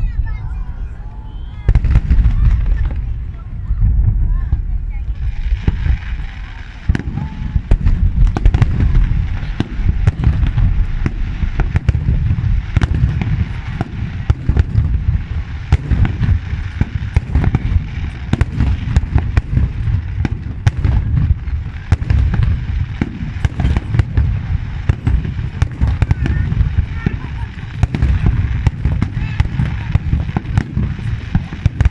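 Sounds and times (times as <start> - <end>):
fireworks booming rumble: 0.0 - 31.9
fireworks sharp cracks: 0.0 - 31.9.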